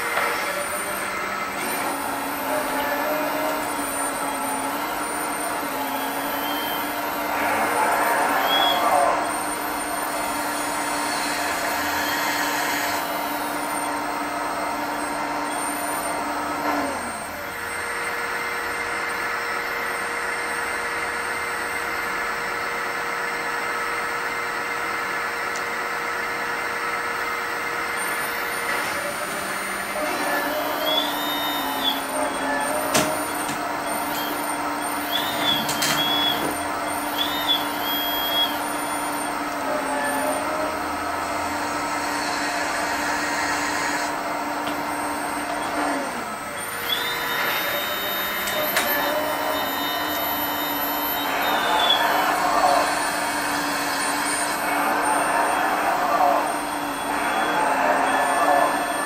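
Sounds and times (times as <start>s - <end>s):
hydraulic pump whining: 0.0s - 59.0s.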